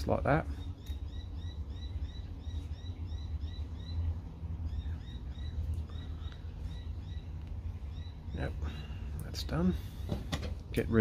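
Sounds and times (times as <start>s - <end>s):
bird chirping: 0.0s - 10.1s.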